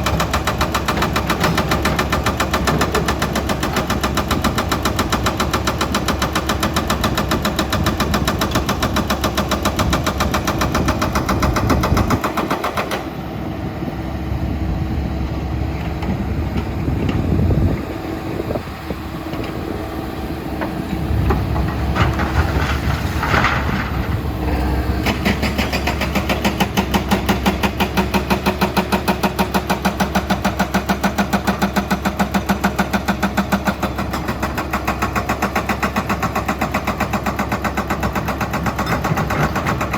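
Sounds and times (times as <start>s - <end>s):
diesel excavator engine clattering: 0.0s - 39.9s.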